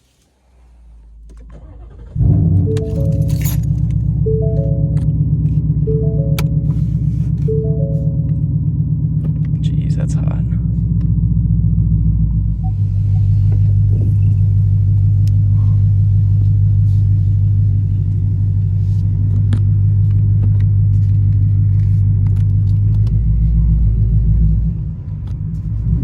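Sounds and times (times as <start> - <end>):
car exhaust drone: 1.0 - 26.0.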